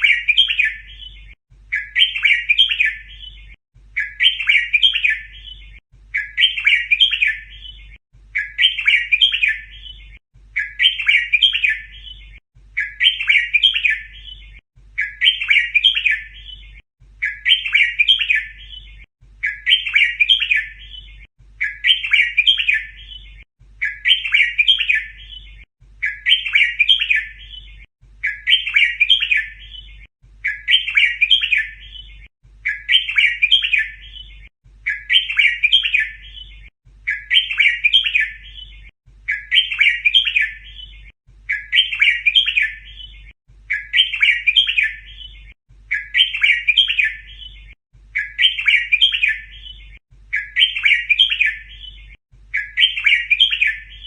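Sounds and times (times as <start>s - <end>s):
bulbul warbled song: 0.0s - 54.0s.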